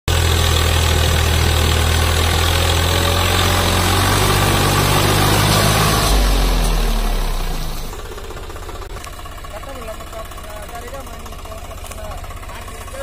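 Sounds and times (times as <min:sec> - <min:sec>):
tractor diesel engine running: 0:00.1 - 0:13.0.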